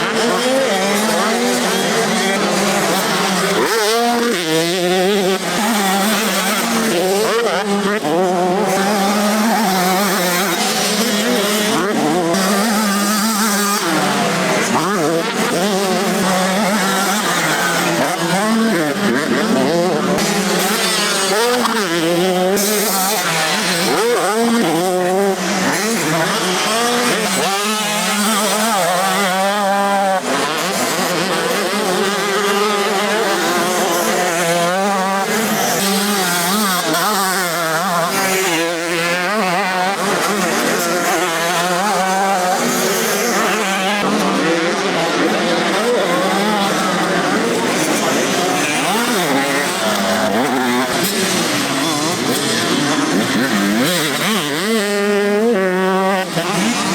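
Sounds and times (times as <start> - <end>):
motocross bikes revving: 0.0 - 56.9.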